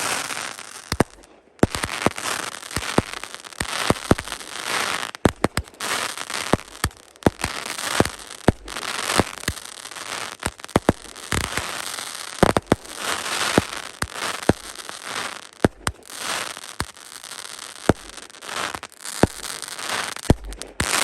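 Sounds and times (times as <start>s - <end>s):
fireworks bangs: 0.0s - 21.0s
fireworks crackling and hissing: 0.0s - 21.0s.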